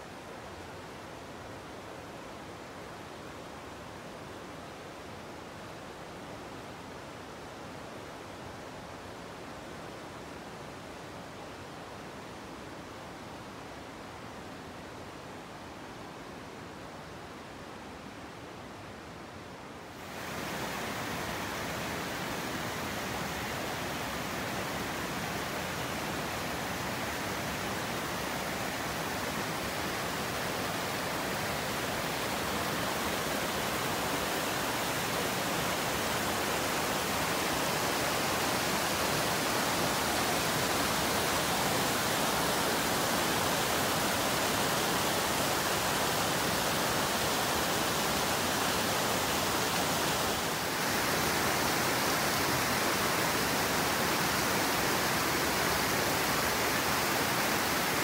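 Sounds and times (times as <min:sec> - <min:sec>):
river whitewater rushing: 0:00.1 - 0:58.0.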